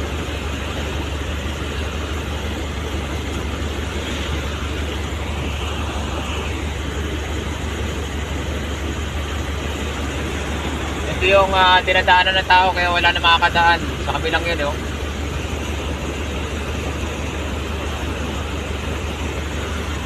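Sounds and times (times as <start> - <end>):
low steady hum: 0.0 - 20.0
water rushing over weir: 0.0 - 20.0.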